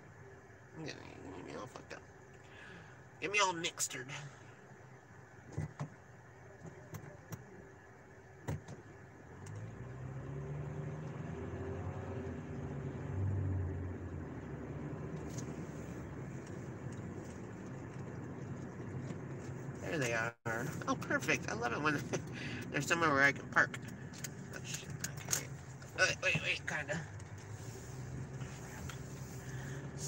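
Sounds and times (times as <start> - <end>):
car engine: 0.0 - 30.0
road noise: 0.0 - 30.0.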